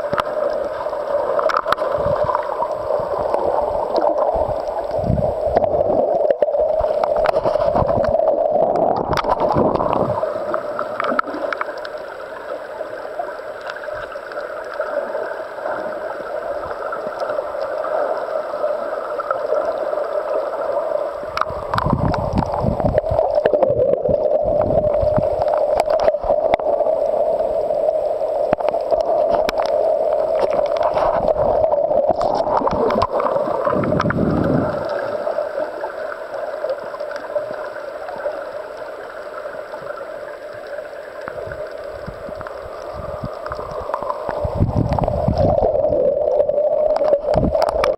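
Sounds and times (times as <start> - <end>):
low gurgling surges: 0.0 - 13.6, 20.5 - 39.6, 40.2 - 47.9.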